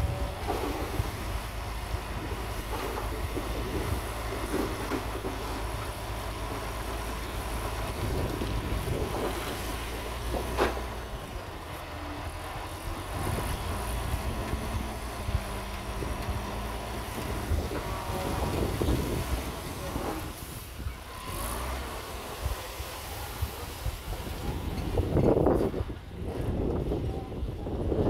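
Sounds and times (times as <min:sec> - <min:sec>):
soil load sliding out: 0:00.0 - 0:26.8
truck diesel engine running: 0:00.0 - 0:27.0.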